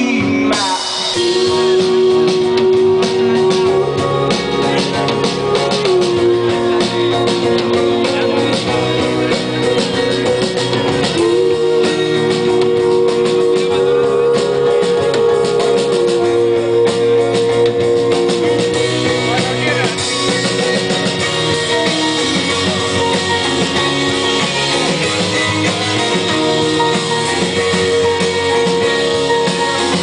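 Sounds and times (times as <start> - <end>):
acoustic guitar: 0.0 - 30.0
drum kit: 0.0 - 30.0
electric guitar: 0.0 - 30.0.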